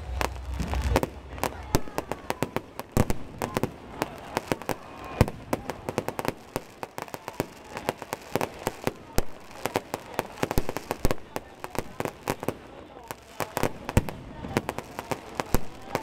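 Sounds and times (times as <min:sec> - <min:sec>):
fireworks bangs and pops: 0:00.0 - 0:16.0
fireworks crackling: 0:00.0 - 0:16.0.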